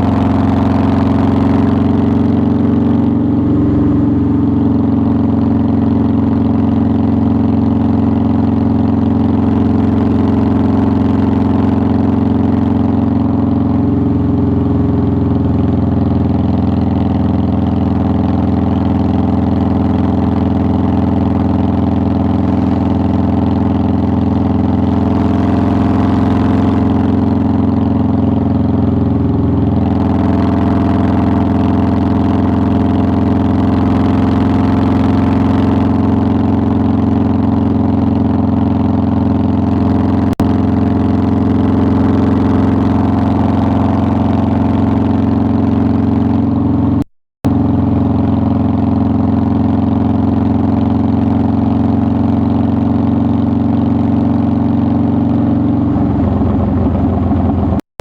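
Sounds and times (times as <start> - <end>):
motorcycle engine running: 0.0 - 57.8.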